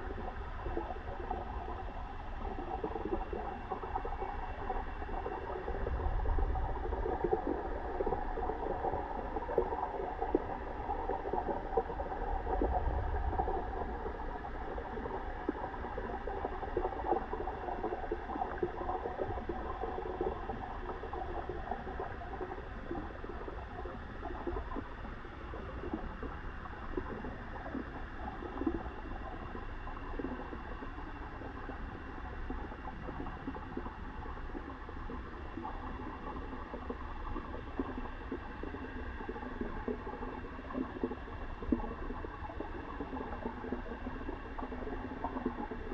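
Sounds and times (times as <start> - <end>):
water gurgling and bubbling: 0.0 - 45.9.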